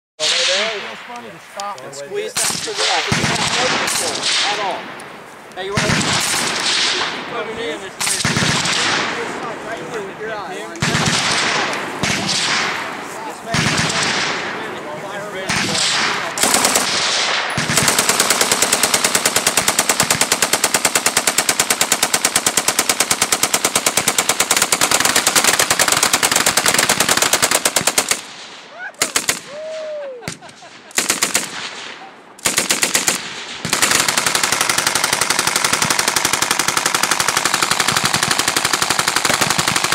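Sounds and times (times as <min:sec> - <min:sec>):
machine gun firing: 0:02.3 - 0:05.0, 0:05.7 - 0:09.4, 0:10.8 - 0:14.6, 0:15.5 - 0:29.5, 0:30.9 - 0:39.9.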